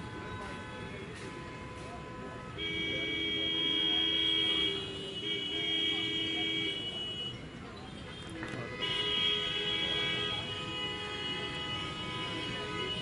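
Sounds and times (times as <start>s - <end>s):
vehicle horn blasts: 0.0s - 7.5s, 8.1s - 13.0s.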